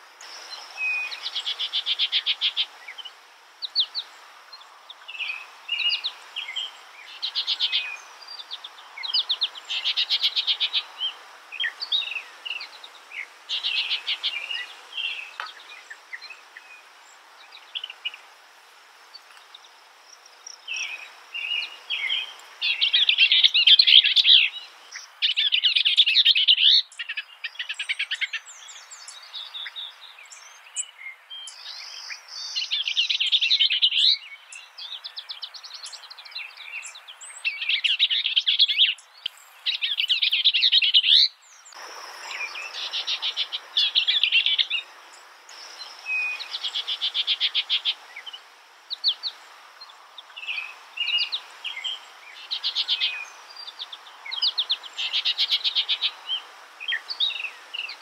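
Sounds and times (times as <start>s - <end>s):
songbird singing trills: 0.2s - 18.3s, 19.1s - 58.0s.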